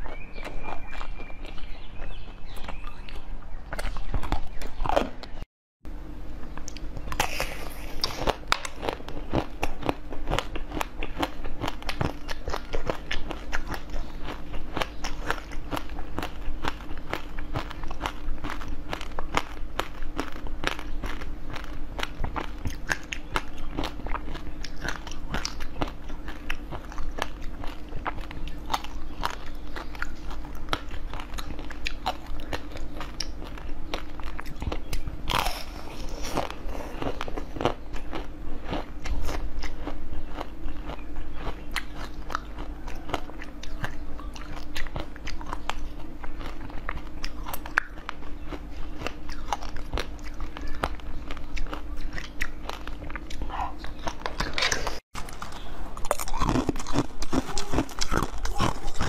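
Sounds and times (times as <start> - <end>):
crunching ice cream shell: 6.4 - 59.0.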